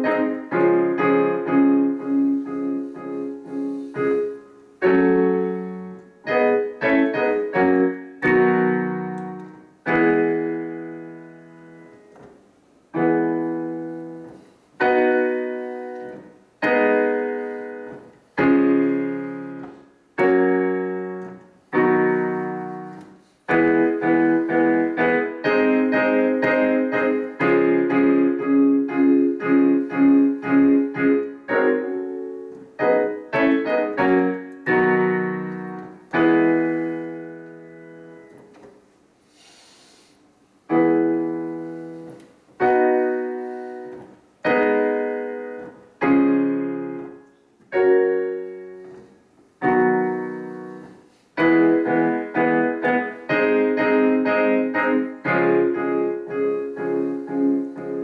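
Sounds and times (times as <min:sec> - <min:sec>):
digital piano chords: 0:00.0 - 0:58.0.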